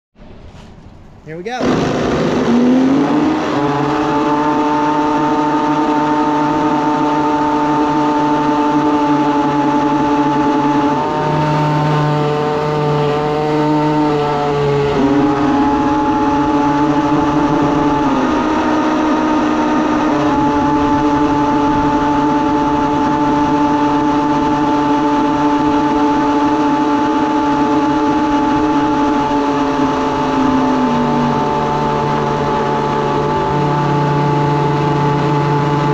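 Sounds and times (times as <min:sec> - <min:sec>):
toy boat motor whining: 0:01.6 - 0:35.9.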